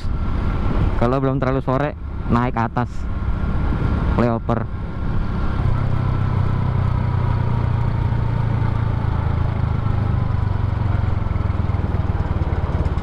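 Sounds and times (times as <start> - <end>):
motorbike engine cruising: 0.0 - 13.0
road noise: 0.0 - 13.0.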